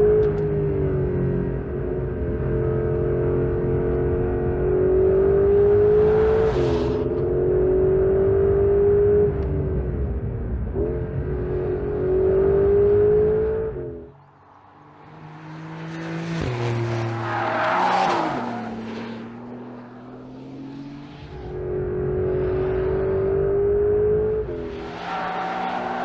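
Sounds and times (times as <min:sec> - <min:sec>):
sports car engine passing: 0:00.3 - 0:26.0.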